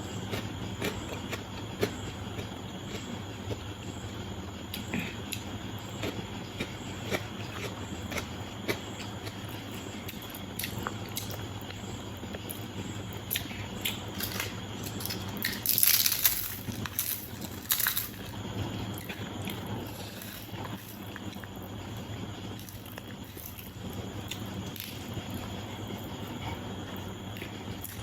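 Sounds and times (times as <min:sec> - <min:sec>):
person chewing food: 0:00.1 - 0:04.0, 0:04.6 - 0:28.0.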